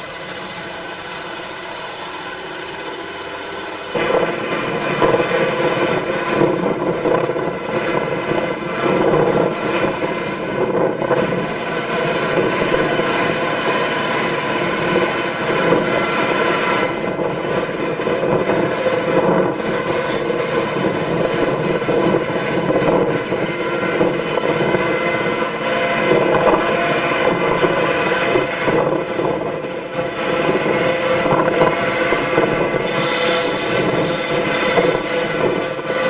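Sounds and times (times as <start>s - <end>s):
farm machine engine droning: 0.0s - 6.6s, 7.6s - 36.0s.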